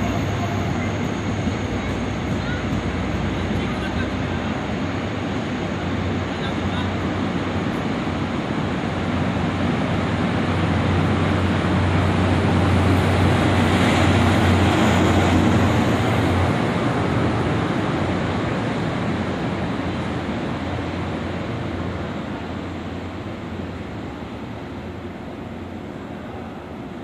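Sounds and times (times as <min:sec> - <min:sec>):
passenger train rumbling past: 0:00.0 - 0:27.0
train low drone: 0:00.0 - 0:27.0.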